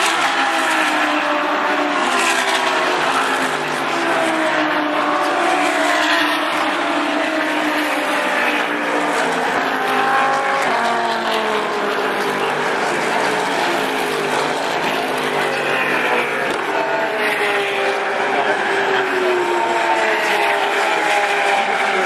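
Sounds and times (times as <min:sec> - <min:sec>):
race car engines accelerating: 0:00.0 - 0:22.0.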